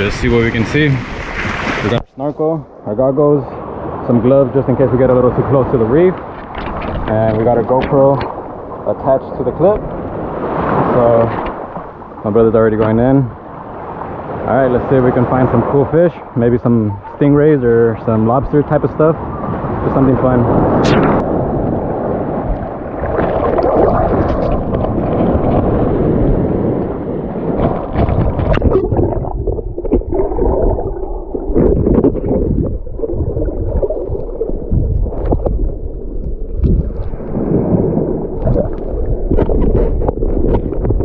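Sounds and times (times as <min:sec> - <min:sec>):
water churning underwater: 0:00.0 - 0:02.8, 0:03.6 - 0:18.3, 0:19.0 - 0:41.0.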